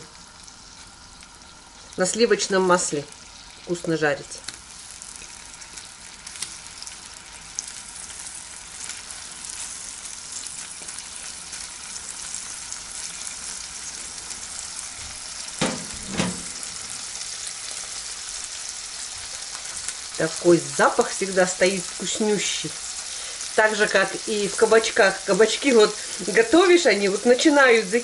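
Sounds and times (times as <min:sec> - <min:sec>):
cheese sizzling in a pan: 0:00.0 - 0:28.0.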